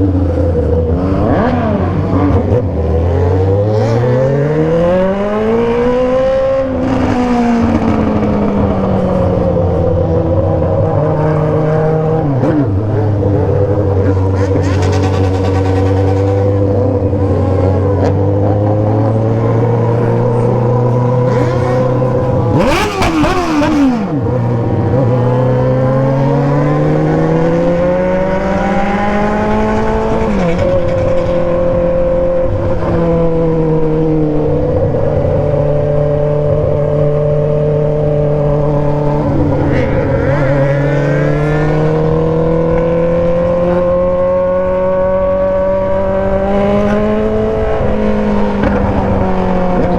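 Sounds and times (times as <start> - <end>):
motorcycle engine running hard: 0.0 - 49.9
passing engine rush: 0.0 - 49.9.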